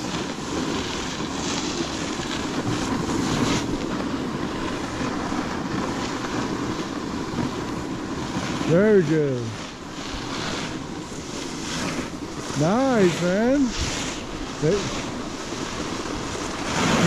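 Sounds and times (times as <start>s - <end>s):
snowboard scraping over snow: 0.0s - 17.0s
wind on microphone: 0.0s - 17.0s.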